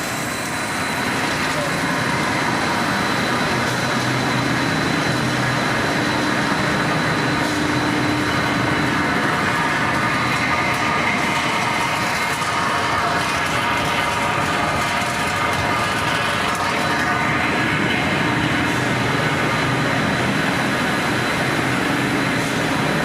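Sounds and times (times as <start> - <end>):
machine noise: 0.0 - 23.0.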